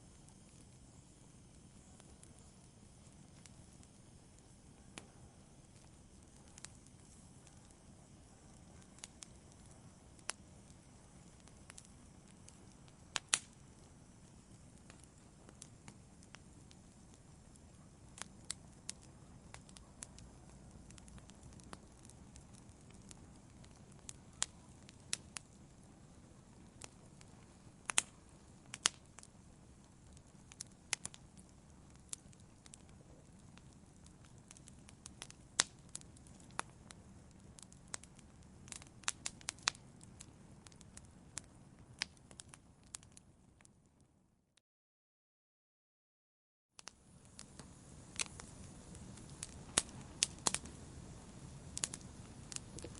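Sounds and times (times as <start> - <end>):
fire crackling and popping: 0.0 - 44.1, 46.8 - 52.9
low rumble of flames: 0.0 - 44.2, 46.8 - 52.9.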